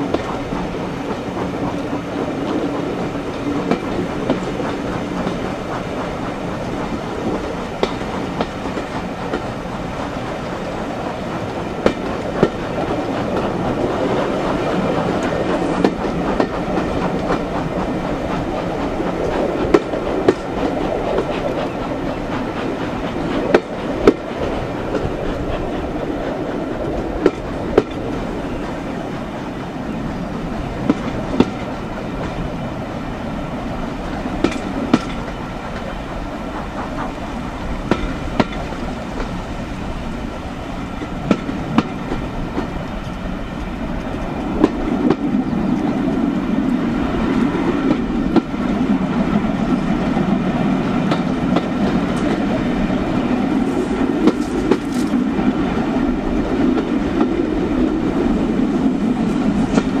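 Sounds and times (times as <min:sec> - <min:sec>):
train wheels rumbling over rail joints: 0:00.0 - 1:00.0
wind on microphone: 0:00.0 - 1:00.0.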